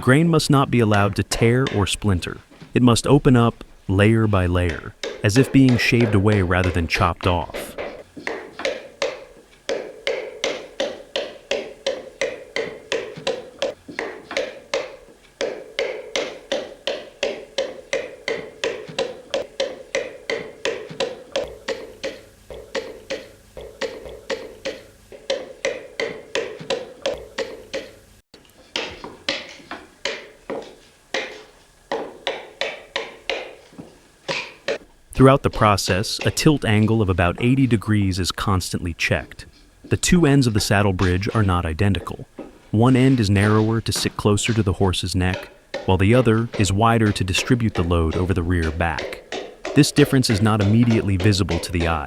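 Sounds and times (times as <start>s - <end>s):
hatchet striking wood: 4.6s - 28.0s, 28.8s - 37.8s, 40.3s - 52.0s.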